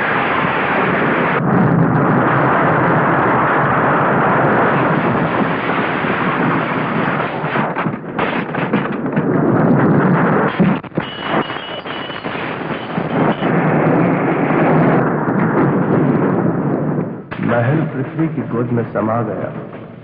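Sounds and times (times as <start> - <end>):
blasts and crashing rubble: 0.0 - 20.0.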